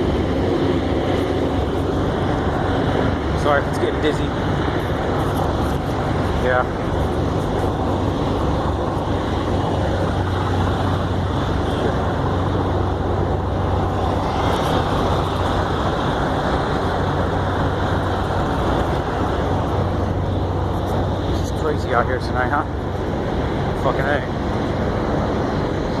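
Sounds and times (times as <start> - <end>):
constant low hum: 0.0 - 26.0
engine and traffic noise: 0.0 - 26.0.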